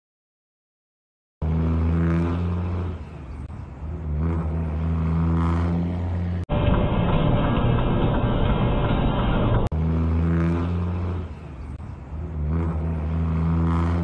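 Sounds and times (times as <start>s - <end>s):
road noise: 1.4s - 14.0s
vehicle engine humming: 1.4s - 14.0s.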